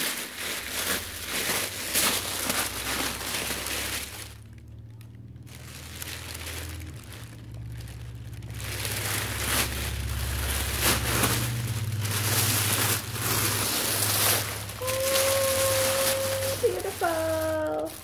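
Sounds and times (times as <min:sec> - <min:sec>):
tissue paper rustling and crinkling: 0:00.0 - 0:18.0.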